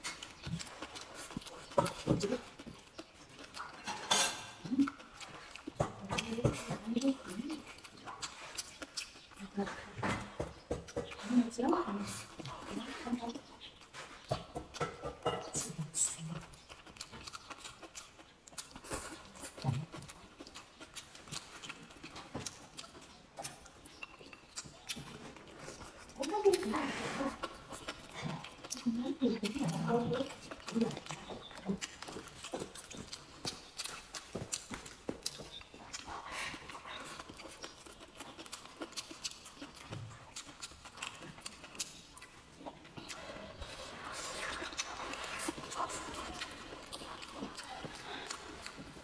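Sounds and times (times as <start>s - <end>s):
person chewing: 0.0s - 49.0s.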